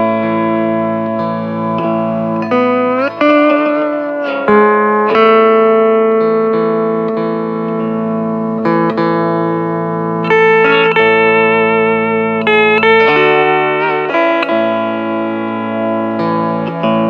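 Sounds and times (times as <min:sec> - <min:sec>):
steel guitar slow melody: 0:00.0 - 0:17.0.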